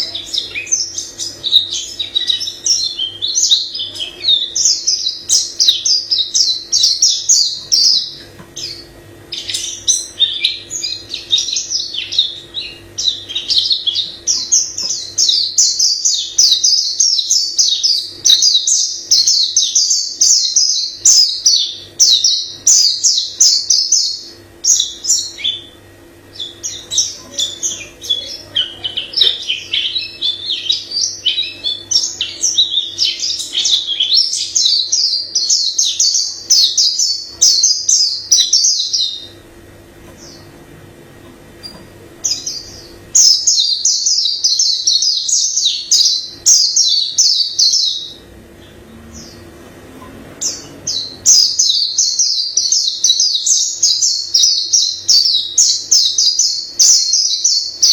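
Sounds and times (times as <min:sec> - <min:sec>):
bird singing rapid chirps: 0:00.0 - 0:39.5, 0:41.6 - 0:49.6, 0:50.4 - 0:57.9
faint steady hum: 0:00.0 - 0:57.9.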